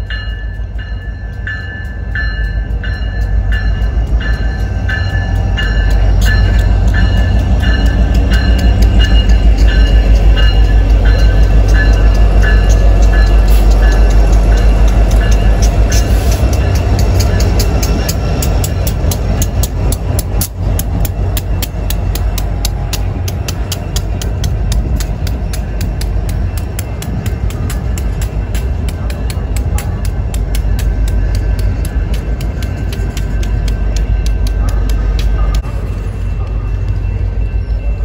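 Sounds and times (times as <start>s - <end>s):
diesel locomotive engine rumble: 0.0s - 38.0s
wheels clicking over rail joints: 1.2s - 35.8s.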